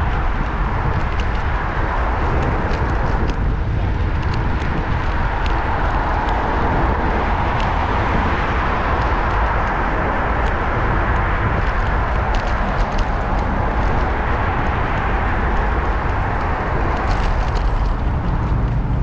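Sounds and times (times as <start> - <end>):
bicycle clicks and rattles: 0.0 - 19.0
road rumble: 0.0 - 19.0
wind rushing: 0.0 - 19.0.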